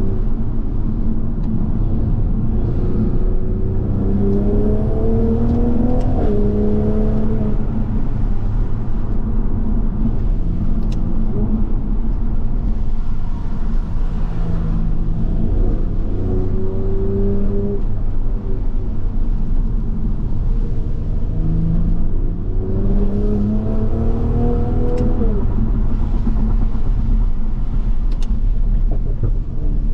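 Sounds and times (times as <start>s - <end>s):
road noise: 0.0s - 29.9s
car engine accelerating: 1.4s - 29.9s.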